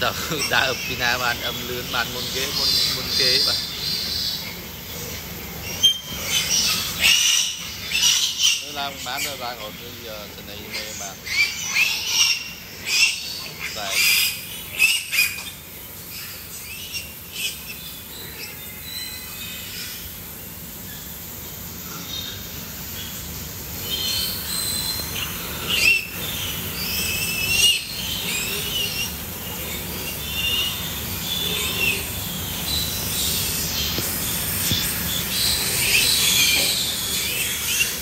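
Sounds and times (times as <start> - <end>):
piglets squealing: 0.0 - 20.1, 23.8 - 38.0
steady low hum: 0.0 - 38.0.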